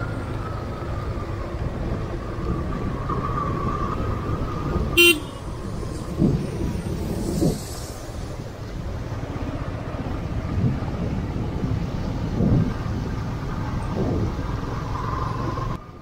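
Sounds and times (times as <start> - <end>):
wind buffeting microphone: 0.0 - 15.8
vehicle road and wind noise: 0.0 - 16.0.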